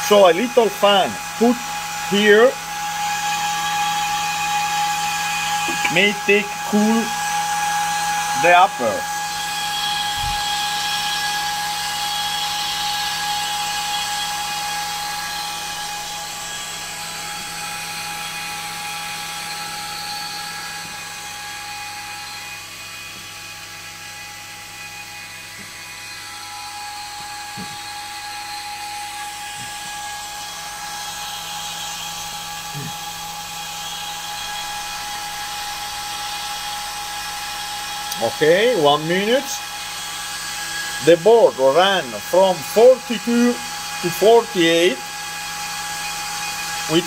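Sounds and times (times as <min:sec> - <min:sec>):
cooling fan whining: 0:00.0 - 0:47.0.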